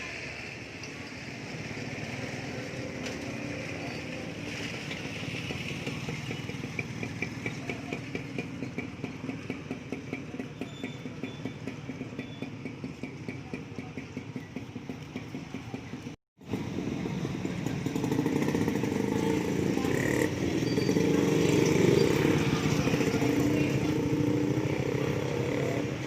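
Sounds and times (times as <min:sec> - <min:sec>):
street traffic: 0:00.0 - 0:26.0
motorcycle engine running: 0:02.7 - 0:26.0.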